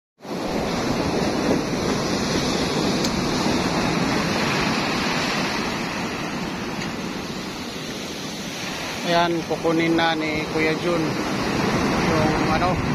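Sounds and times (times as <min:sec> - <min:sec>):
sea waves rushing: 0:00.2 - 0:12.9
wind buffeting microphone: 0:00.2 - 0:12.9.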